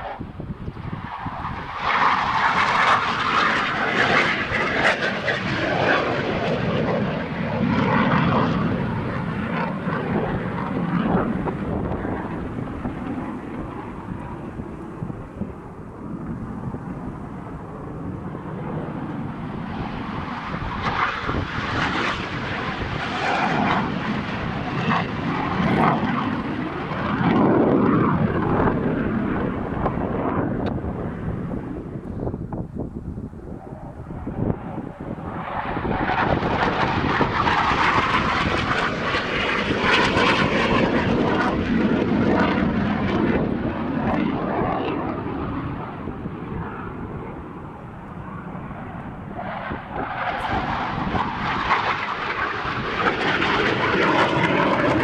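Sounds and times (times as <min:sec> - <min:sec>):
jet engine rumble: 0:00.0 - 0:55.0.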